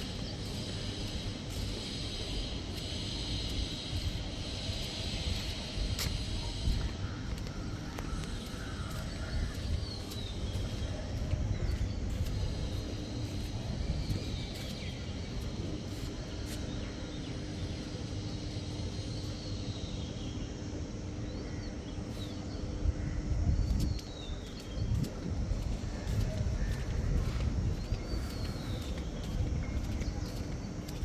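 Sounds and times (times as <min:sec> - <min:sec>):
small birds chirping: 0:00.0 - 0:20.5, 0:21.1 - 0:31.0
faint steady hum: 0:00.0 - 0:31.0
steady low rumble: 0:00.0 - 0:31.0.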